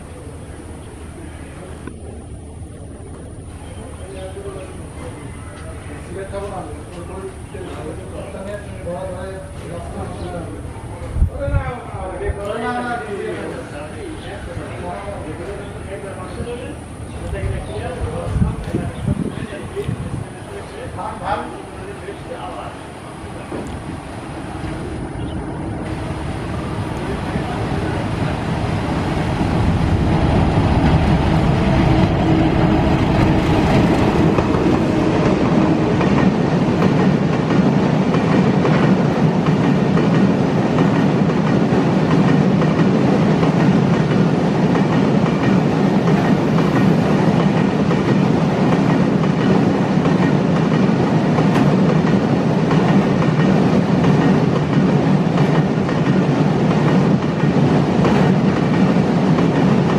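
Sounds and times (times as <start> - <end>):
diesel locomotive engine: 0.0 - 59.9
train wheels on rails: 0.0 - 59.9.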